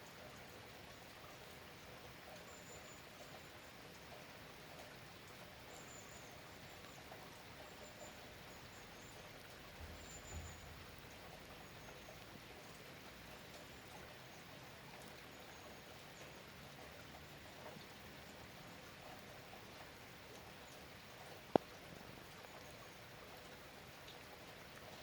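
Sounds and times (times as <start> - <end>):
light rain: 0.0 - 25.0.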